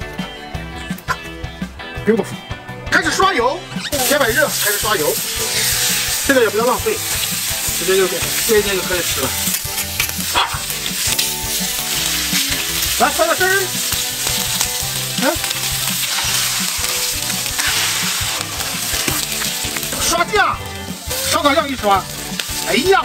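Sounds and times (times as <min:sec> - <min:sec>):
food sizzling on griddle: 0:03.8 - 0:23.0.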